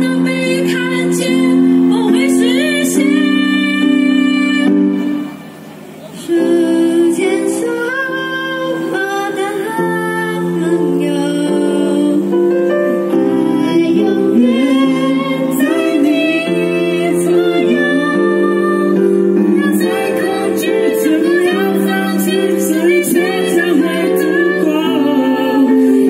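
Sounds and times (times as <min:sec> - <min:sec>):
young people singing: 0:00.0 - 0:05.2, 0:06.0 - 0:26.0
sustained backing chords: 0:00.0 - 0:26.0.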